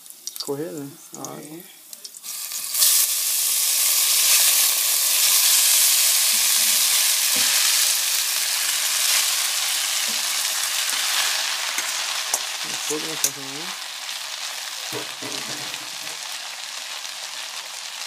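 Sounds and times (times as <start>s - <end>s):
pasta sizzling in hot oil: 0.0s - 18.0s.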